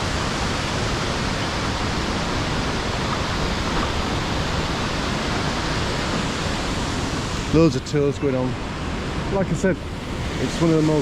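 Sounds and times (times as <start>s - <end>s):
water rushing over cascades: 0.0s - 11.0s.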